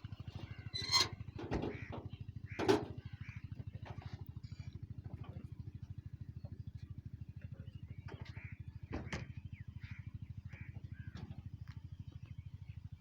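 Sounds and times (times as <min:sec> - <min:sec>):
tractor diesel engine idling: 0:00.0 - 0:12.8.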